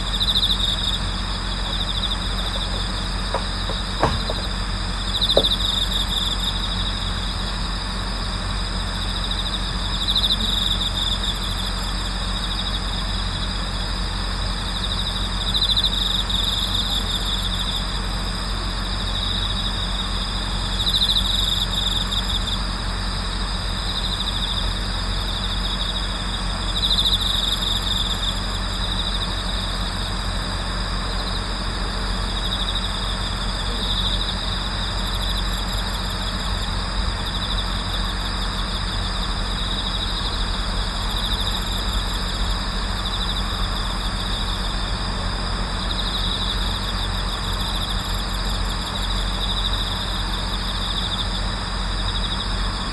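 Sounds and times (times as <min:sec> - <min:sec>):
bell crickets pulsed trills: 0:00.0 - 0:52.9
crickets high ringing: 0:00.0 - 0:52.9.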